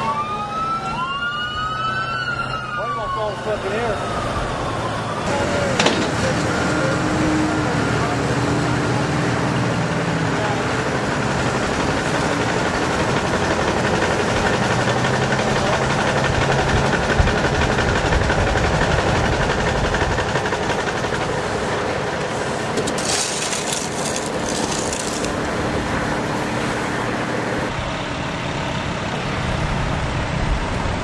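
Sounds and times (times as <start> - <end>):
heavy diesel engines running: 2.7 - 31.0.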